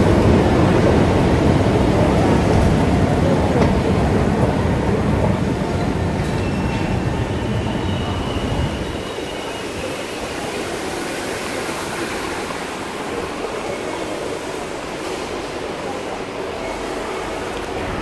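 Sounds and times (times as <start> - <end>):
station concourse hiss: 0.0 - 18.0.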